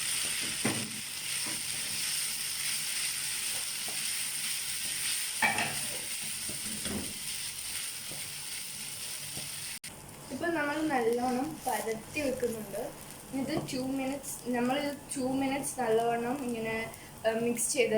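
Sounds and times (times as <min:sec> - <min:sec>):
food sizzling in a frying pan: 0:00.0 - 0:17.9.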